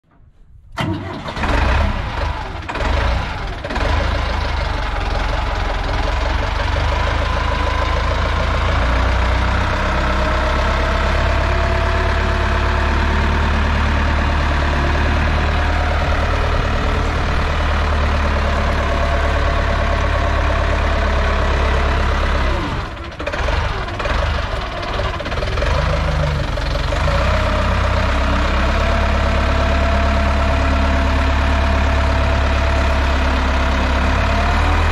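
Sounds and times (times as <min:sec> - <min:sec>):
forklift diesel engine: 0:00.1 - 0:34.9.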